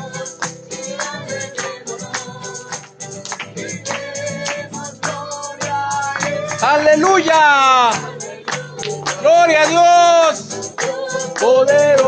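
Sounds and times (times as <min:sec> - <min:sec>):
tambourine: 0:00.0 - 0:12.0
worship band playing: 0:00.0 - 0:12.0.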